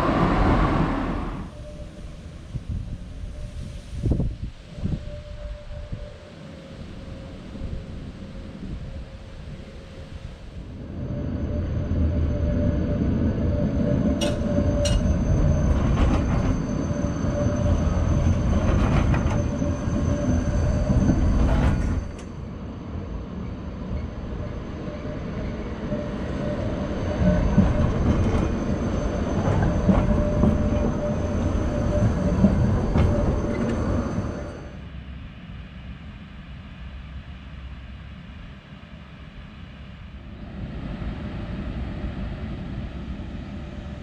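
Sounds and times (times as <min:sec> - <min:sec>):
tram wheels rumbling: 0:00.0 - 0:35.8.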